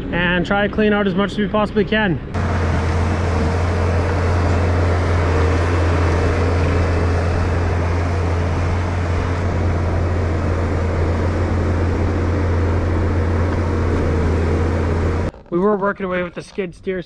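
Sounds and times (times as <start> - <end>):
skid steer engine droning: 0.0 - 15.4.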